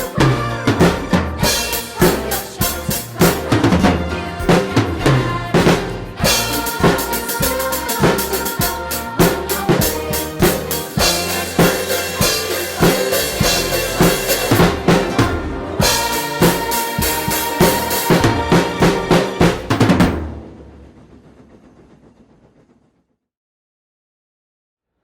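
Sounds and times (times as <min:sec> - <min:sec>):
recorded instrumental music: 0:00.0 - 0:20.2
drum kit playing: 0:00.0 - 0:20.8.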